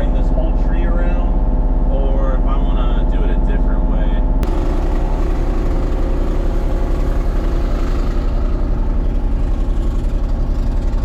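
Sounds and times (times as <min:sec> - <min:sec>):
engine running with low throb: 0:00.0 - 0:11.0.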